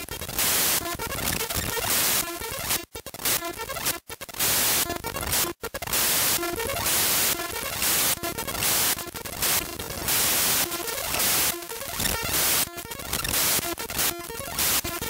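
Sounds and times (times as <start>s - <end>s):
harsh digital static: 0.0s - 15.0s
buzzy stepped tone patterns: 0.7s - 15.0s.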